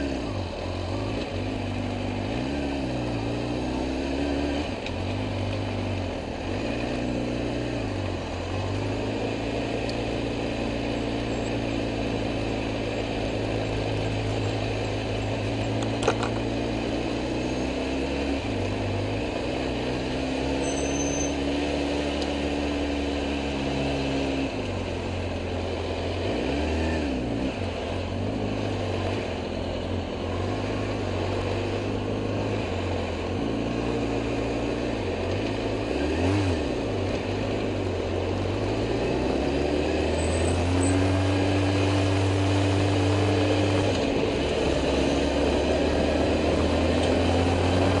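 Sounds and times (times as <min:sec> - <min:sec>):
engine revving: 0:00.0 - 0:48.0.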